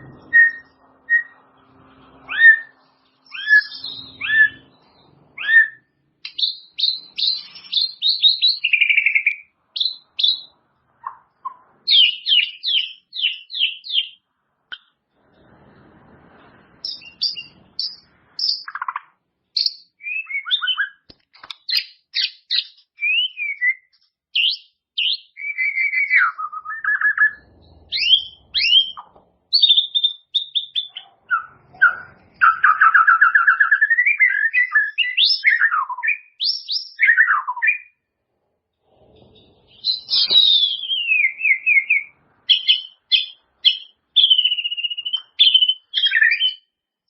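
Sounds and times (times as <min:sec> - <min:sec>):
bird singing whistled song: 0:00.0 - 0:01.6, 0:02.2 - 0:14.8, 0:16.8 - 0:19.0, 0:19.6 - 0:38.0, 0:39.7 - 0:46.8.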